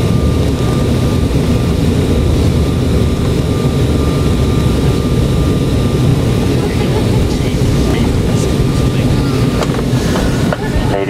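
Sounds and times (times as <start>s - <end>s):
airframe rumbling: 0.0s - 11.0s
faint steady whine: 0.0s - 11.0s
jet engines running: 0.0s - 11.0s.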